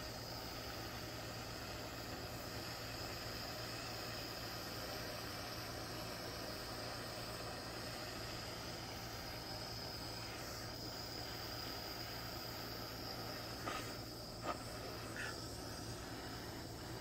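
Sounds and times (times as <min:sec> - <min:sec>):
butane torch hissing: 0:00.0 - 0:17.0.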